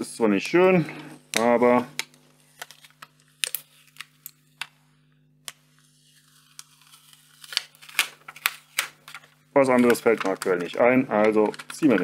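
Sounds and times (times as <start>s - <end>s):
faint steady hum: 0.0s - 12.0s
plastic film crackling: 1.3s - 4.8s, 5.5s - 12.0s.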